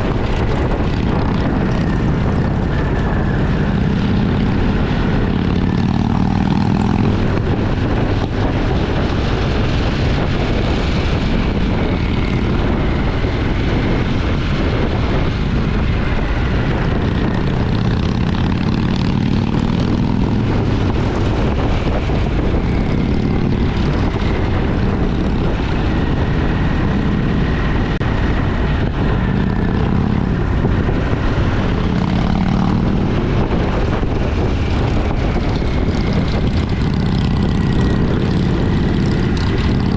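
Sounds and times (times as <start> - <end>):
motorcycle engine droning: 0.0 - 39.9
wind noise rushing: 0.0 - 39.9.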